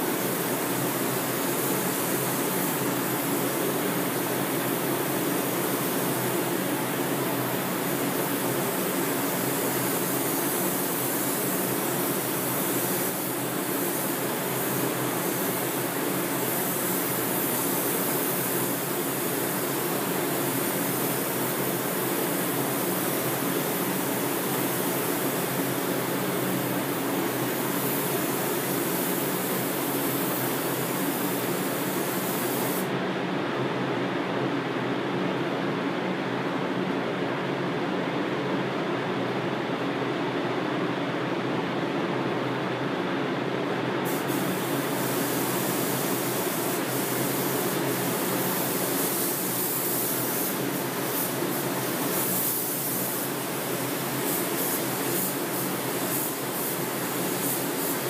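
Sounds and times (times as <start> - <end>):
high air hiss: 0.0 - 33.0, 44.0 - 58.0
ventilation airflow rushing: 0.0 - 58.0.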